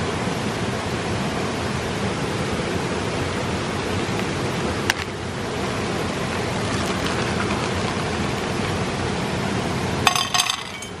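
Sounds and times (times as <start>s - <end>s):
running water rushing: 0.2s - 10.9s.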